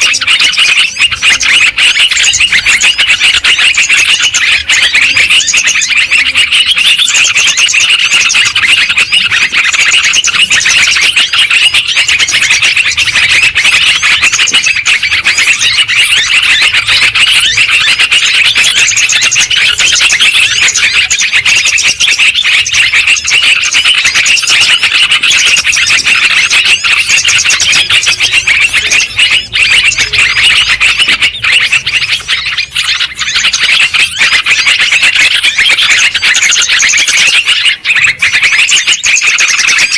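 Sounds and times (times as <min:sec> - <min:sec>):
bulbuls chirping in chorus: 0:00.0 - 0:39.9.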